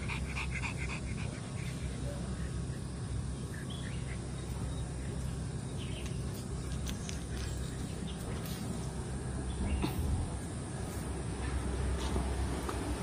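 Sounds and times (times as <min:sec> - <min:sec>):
birds chirping: 0:00.0 - 0:10.5.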